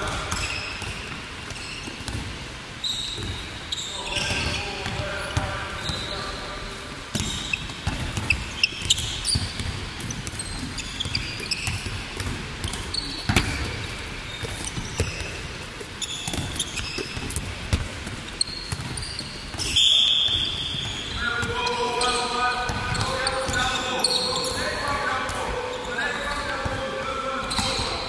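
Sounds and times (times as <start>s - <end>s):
sports shoes squeaking: 0.0s - 28.0s.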